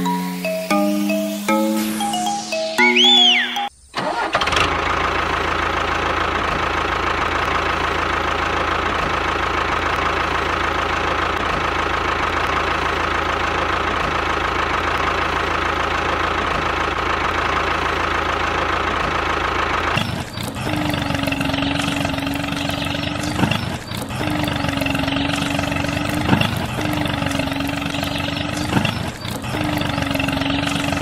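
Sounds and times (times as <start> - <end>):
tractor engine starting and idling: 1.4 - 31.0.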